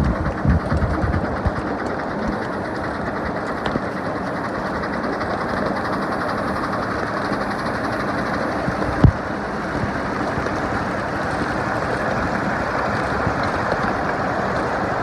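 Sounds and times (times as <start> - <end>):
miniature steam train rumbling: 0.0 - 15.0.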